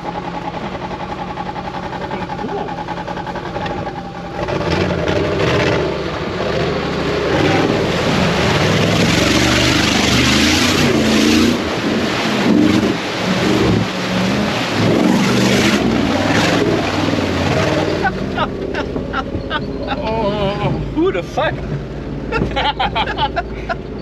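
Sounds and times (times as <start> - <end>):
off-road vehicle engine revving: 0.0 - 24.0
water splashing and rushing: 0.0 - 24.0.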